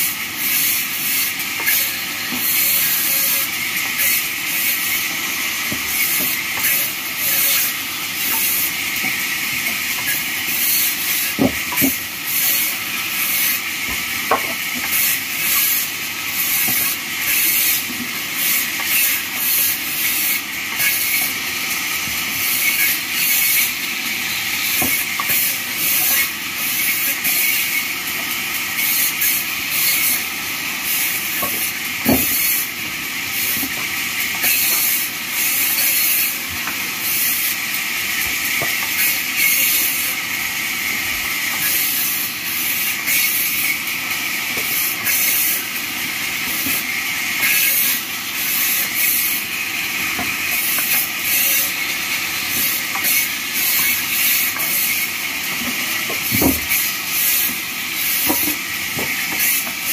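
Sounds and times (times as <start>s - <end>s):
bandsaw cutting wood: 0.0s - 59.9s.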